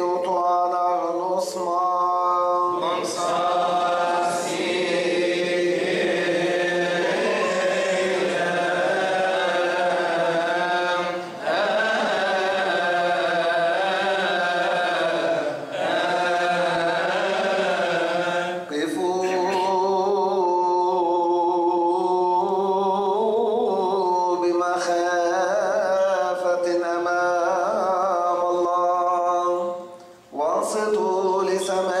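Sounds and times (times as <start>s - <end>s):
man chanting: 0.0s - 32.0s.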